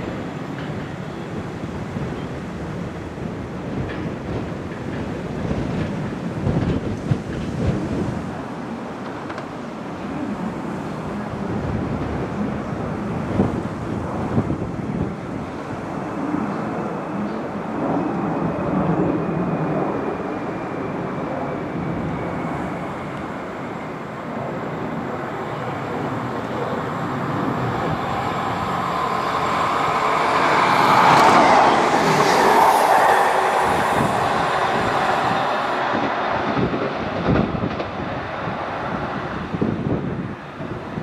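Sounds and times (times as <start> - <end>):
train running past: 0.0 - 41.0.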